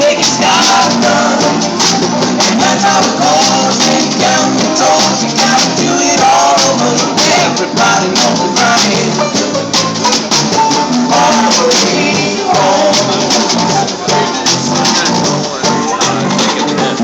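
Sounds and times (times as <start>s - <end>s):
person singing: 0.0s - 9.8s, 10.6s - 17.0s
plucked strings: 0.0s - 17.0s
shaker or tambourine rhythm: 0.0s - 17.0s.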